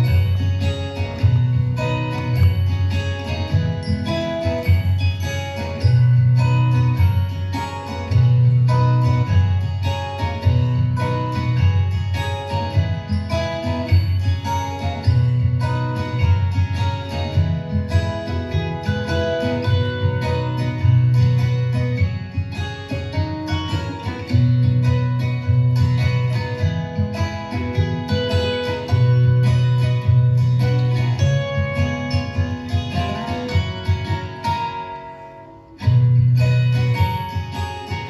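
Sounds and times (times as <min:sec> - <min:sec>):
instrumental background music: 0:00.0 - 0:38.0.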